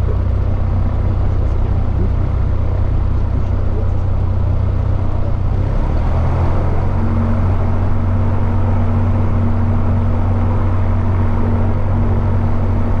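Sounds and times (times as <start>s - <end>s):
plane engine and propeller humming: 0.0s - 13.0s.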